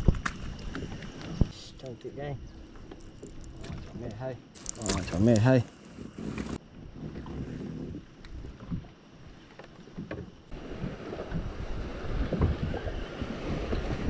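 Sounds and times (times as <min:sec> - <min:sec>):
wind rumbling on microphone: 0:00.0 - 0:09.4, 0:10.2 - 0:14.0
light water sounds: 0:00.0 - 0:14.0.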